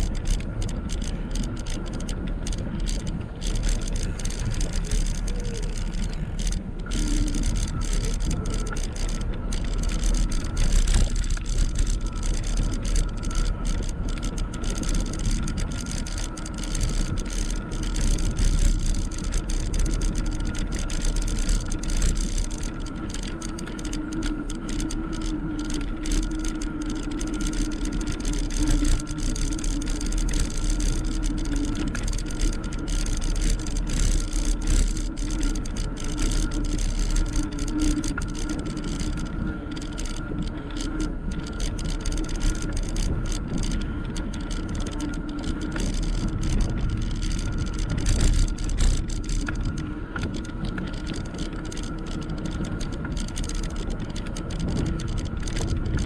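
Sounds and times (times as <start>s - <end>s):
electric motor whine: 0.0s - 56.0s
wind rumbling on microphone: 0.0s - 56.0s.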